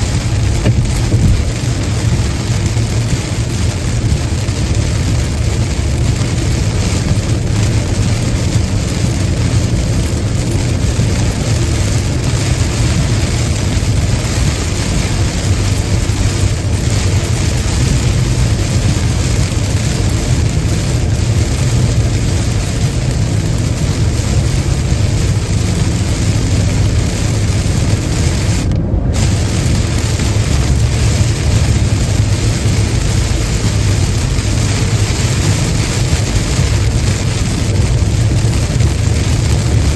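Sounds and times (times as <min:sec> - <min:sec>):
hiss of rain and spray: 0:00.0 - 0:39.9
tyre and engine rumble: 0:00.0 - 0:39.9.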